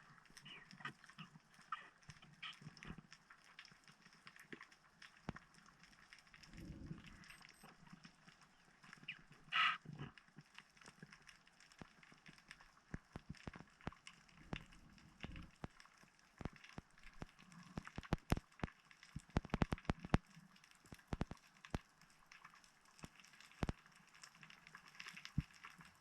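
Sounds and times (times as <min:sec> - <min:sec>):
underwater clicks and crackles: 0:00.0 - 0:26.0.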